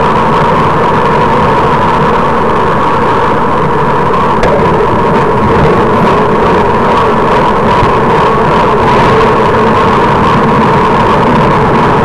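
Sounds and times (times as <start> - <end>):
constant hum: 0.0 - 12.0
road noise: 0.0 - 12.0
rushing wind: 0.0 - 12.0.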